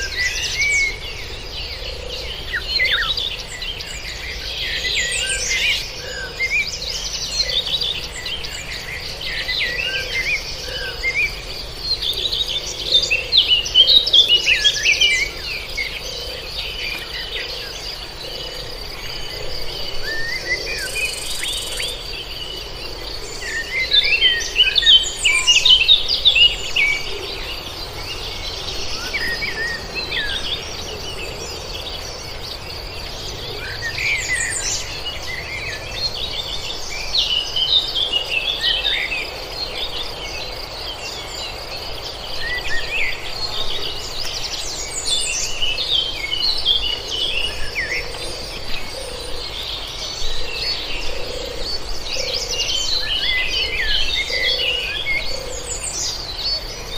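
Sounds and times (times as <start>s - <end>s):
birds chirping: 0.0s - 56.9s
insect drone: 0.0s - 56.9s.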